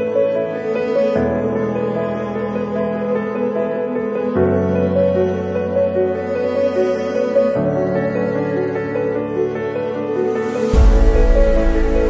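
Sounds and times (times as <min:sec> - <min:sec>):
slow ambient background music: 0:00.0 - 0:12.0.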